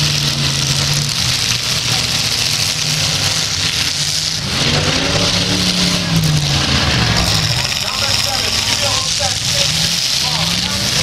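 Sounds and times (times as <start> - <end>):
car engines running hard: 0.0 - 11.0
engine revving: 0.0 - 11.0.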